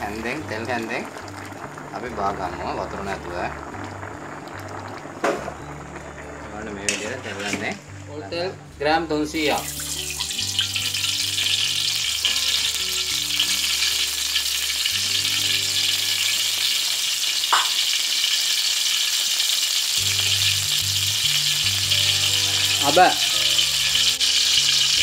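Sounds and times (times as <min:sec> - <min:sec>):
oil sizzling in a wok: 0:00.0 - 0:08.0, 0:09.2 - 0:25.0
background music with low notes: 0:00.0 - 0:17.1, 0:20.0 - 0:25.0.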